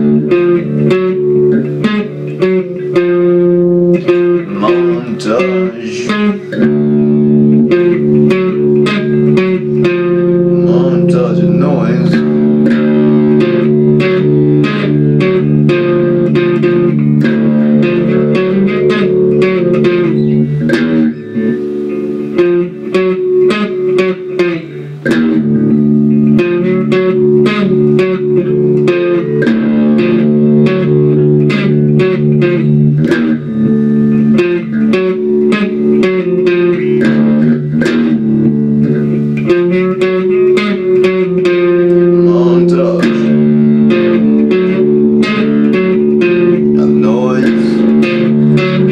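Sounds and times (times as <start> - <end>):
guitar strumming chords: 0.0 - 48.9.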